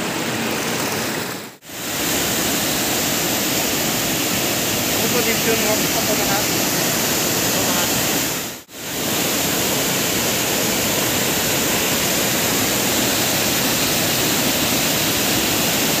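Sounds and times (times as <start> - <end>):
water rushing over a waterfall: 0.0 - 16.0.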